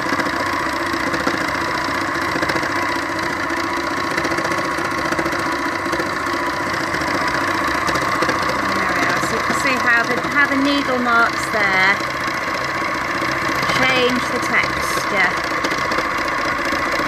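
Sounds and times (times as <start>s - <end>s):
needle-felting machine rattling: 0.0s - 17.0s.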